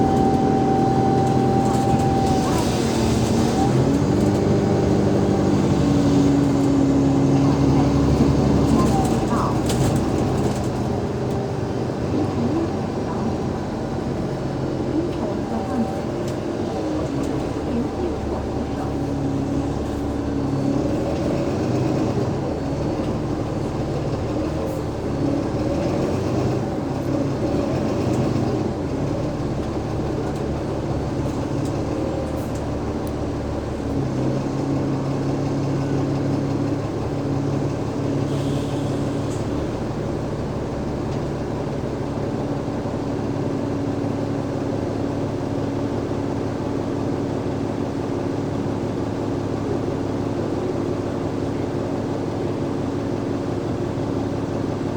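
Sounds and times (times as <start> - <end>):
bus diesel engine humming: 0.0 - 54.9.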